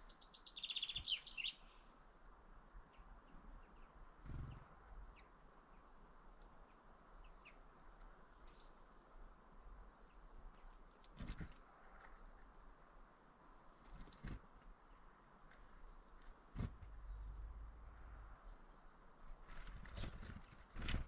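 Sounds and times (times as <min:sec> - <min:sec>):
small birds chirping faintly: 0:00.0 - 0:21.0.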